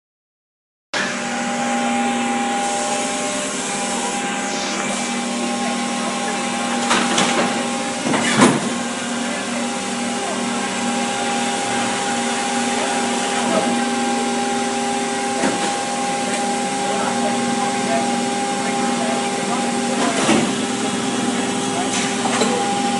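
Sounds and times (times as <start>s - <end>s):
factory machinery hum: 1.0s - 22.9s.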